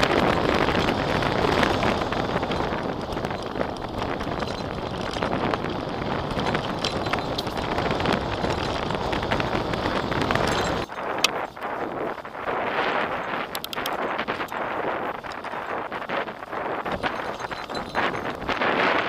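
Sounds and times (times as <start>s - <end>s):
bicycle rattling and knocking: 0.0s - 19.0s
wind buffeting microphone: 0.0s - 19.0s.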